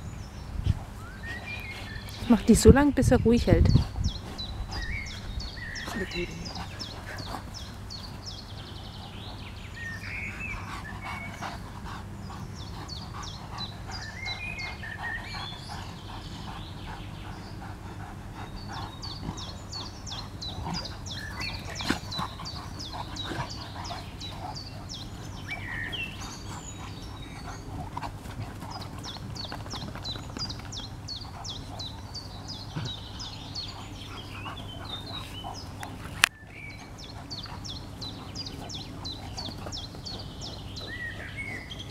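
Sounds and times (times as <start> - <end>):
birds chirping: 0.0 - 41.9
dogs play-fighting: 3.6 - 41.9.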